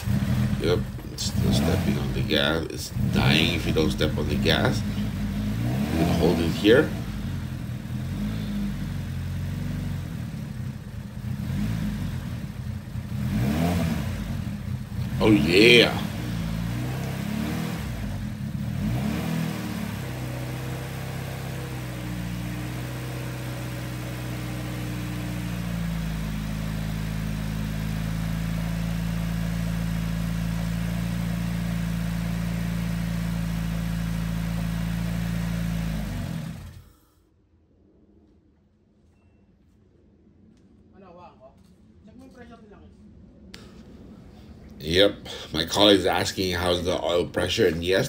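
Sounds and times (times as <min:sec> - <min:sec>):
car engine revving: 0:00.0 - 0:37.2, 0:43.6 - 0:48.0.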